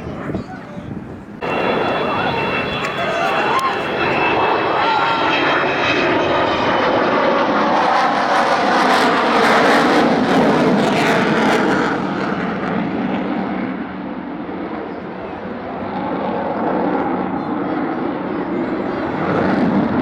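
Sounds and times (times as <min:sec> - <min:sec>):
jet aircraft roaring past: 0:00.0 - 0:20.0.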